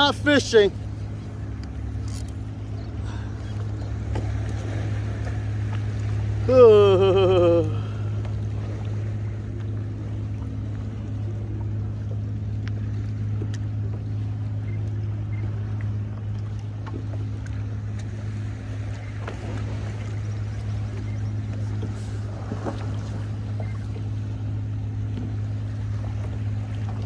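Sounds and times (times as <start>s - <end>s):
boat motor humming: 0.0s - 27.0s.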